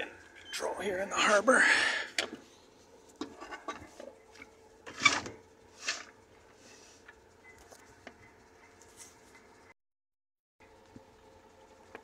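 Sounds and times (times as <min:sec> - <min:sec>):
faint steady hum: 0:00.0 - 0:09.8, 0:10.6 - 0:12.0.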